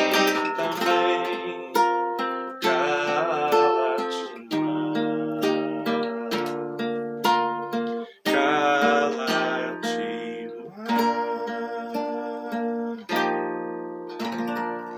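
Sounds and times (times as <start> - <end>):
acoustic guitar chords: 0.0 - 14.9.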